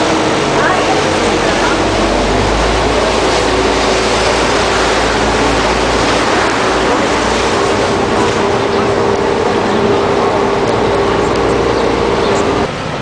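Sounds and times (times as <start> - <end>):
boat engine drone: 0.0 - 13.0
rushing water hiss: 0.0 - 13.0.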